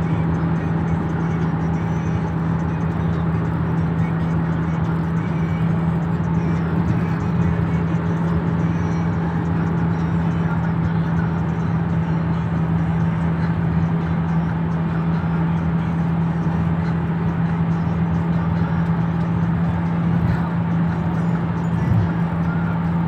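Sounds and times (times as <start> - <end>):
car road and engine noise: 0.0 - 23.0
constant low hum: 0.0 - 23.0.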